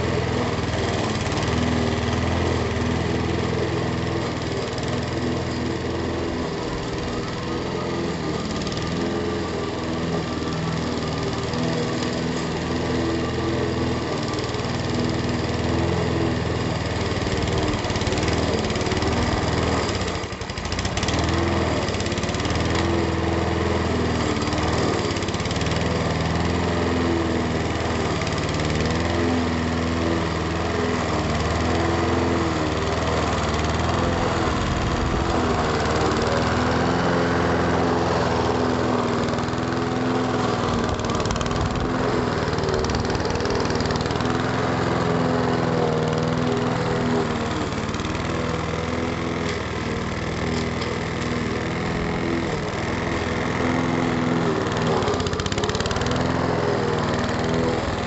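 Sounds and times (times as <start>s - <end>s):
lawnmower cutting grass: 0.0s - 58.0s.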